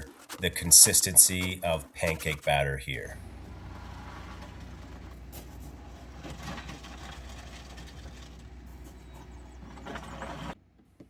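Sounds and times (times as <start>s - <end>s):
concrete mixing scraping and knocks: 0.0s - 10.6s
low motor hum: 0.0s - 11.0s.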